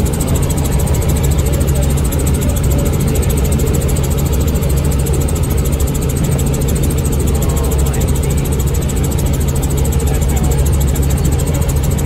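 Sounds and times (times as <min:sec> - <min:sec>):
helicopter drone from cabin: 0:00.0 - 0:12.0.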